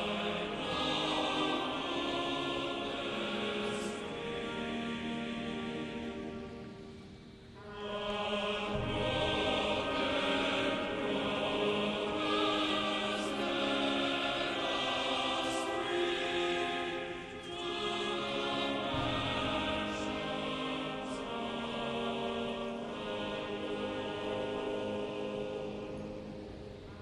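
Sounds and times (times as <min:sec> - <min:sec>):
choir singing: 0:00.0 - 0:27.0.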